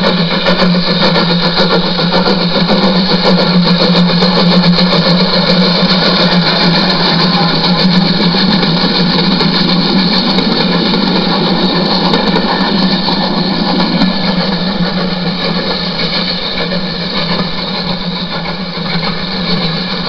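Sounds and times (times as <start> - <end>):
wheels rumbling on track: 0.0 - 20.0
small electric motor humming: 1.3 - 20.0.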